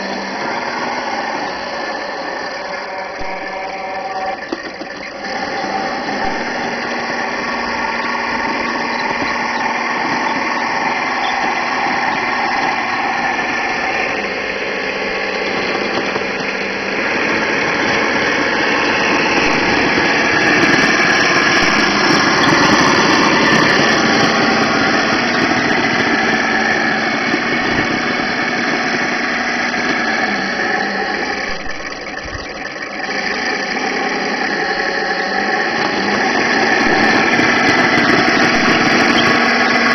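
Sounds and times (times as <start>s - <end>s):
toy tank engine drone: 0.0s - 39.9s.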